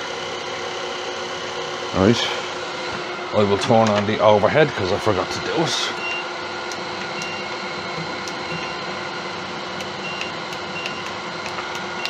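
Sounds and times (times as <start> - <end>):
wood lathe humming: 0.0 - 12.0.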